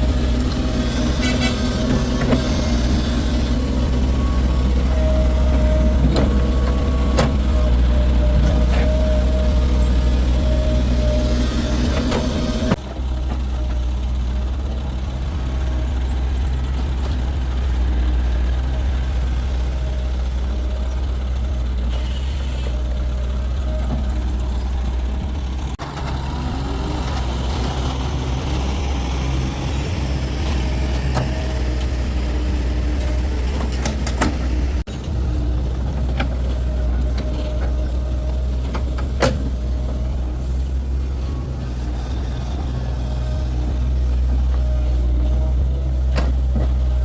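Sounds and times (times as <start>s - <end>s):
heavy vehicle engine droning: 0.0s - 47.0s.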